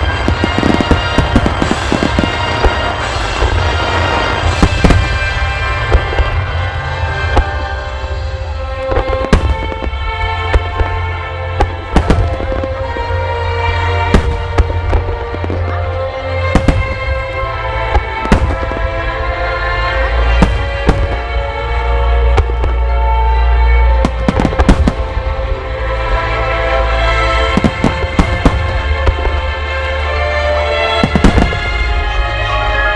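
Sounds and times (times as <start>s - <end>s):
fireworks bursting: 0.0s - 32.9s
music playing: 0.0s - 32.9s.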